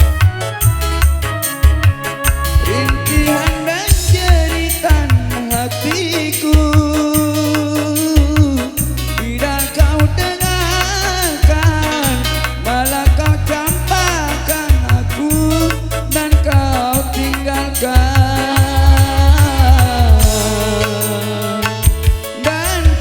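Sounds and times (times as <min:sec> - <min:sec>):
bass and drum beat: 0:00.0 - 0:23.0
keyboard lead melody: 0:00.0 - 0:23.0.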